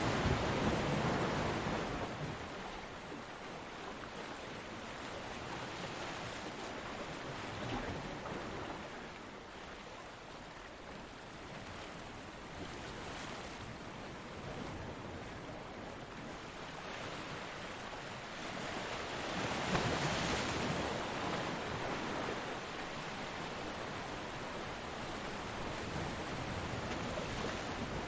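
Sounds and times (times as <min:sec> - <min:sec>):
ocean waves breaking: 0:00.0 - 0:09.8, 0:11.4 - 0:28.0.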